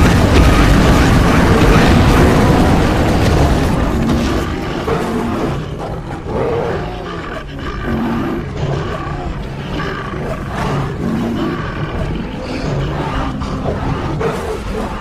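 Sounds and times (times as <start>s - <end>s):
wild animals roaring and calling: 0.0s - 15.0s.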